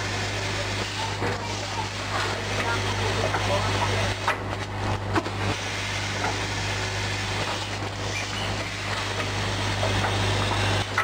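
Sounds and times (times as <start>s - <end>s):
mechanical noise: 0.0s - 11.0s
packing machine humming: 0.0s - 11.0s.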